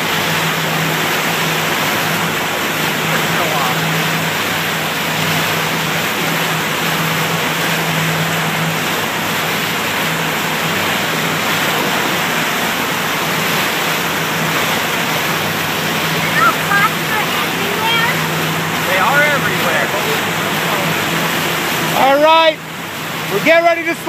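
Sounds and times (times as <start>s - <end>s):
motorboat engine drone: 0.0s - 24.0s
wake water rushing: 0.0s - 24.0s.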